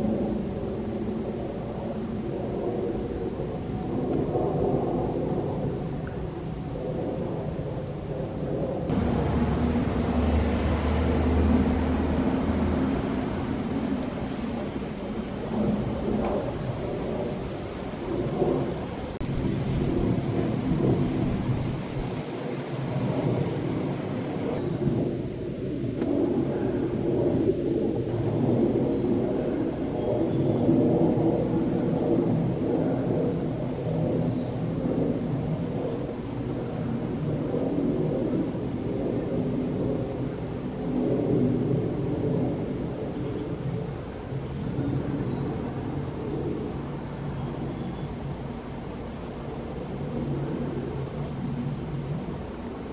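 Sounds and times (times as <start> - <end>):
jet airliner passing overhead: 0.0 - 52.9.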